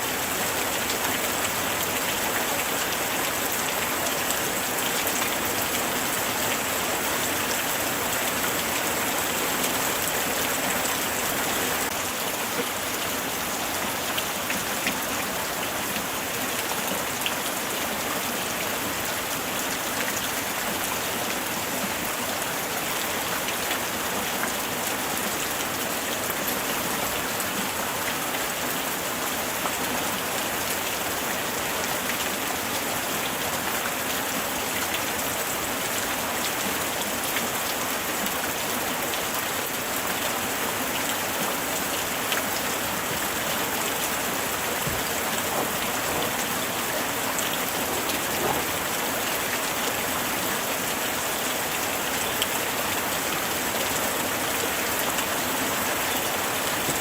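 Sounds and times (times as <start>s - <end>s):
raindrops pattering on surfaces: 0.1s - 57.0s.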